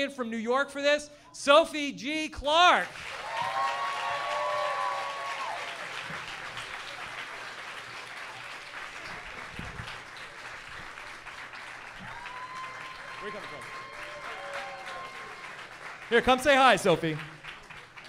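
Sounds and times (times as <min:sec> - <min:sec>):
audience applauding: 0:02.8 - 0:18.0.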